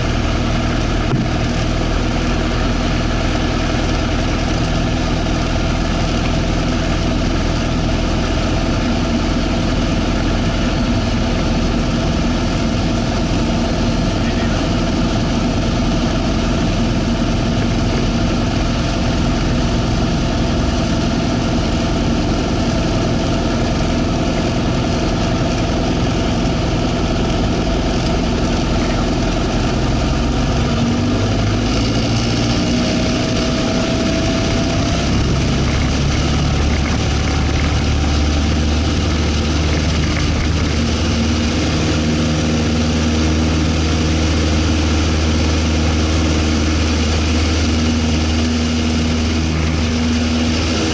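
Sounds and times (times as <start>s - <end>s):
light plane engine and propeller: 0.0s - 50.9s.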